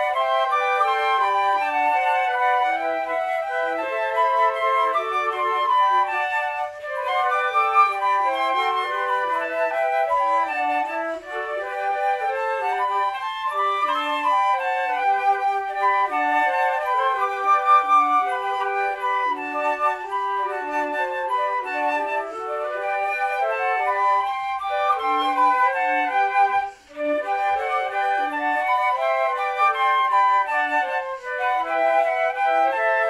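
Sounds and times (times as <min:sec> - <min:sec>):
flutes playing in harmony: 0:00.0 - 0:33.0.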